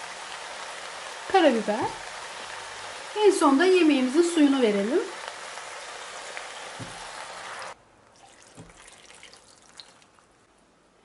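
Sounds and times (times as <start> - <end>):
water hissing in a hot pot: 0.0 - 10.2.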